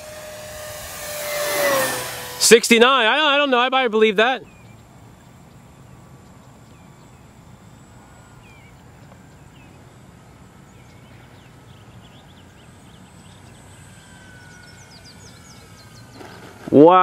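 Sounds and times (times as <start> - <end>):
birds chirping: 0.0 - 17.0
electric motors and propellers humming: 0.0 - 17.0.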